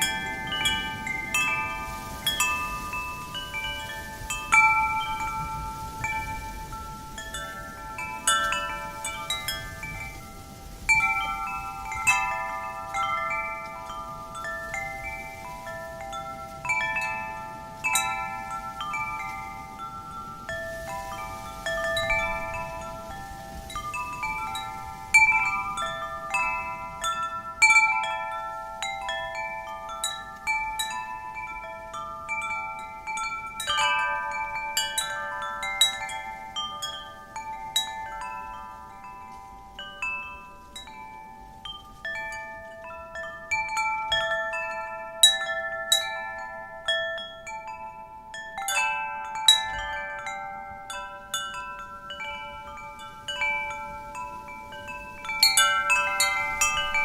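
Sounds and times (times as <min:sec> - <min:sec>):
wind chimes ringing: 0:00.0 - 0:57.0.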